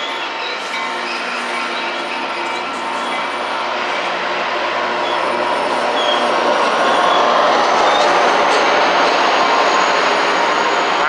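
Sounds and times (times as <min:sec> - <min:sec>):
diesel locomotive passing: 0:00.0 - 0:11.0
train wheels rushing on rail: 0:00.0 - 0:11.0.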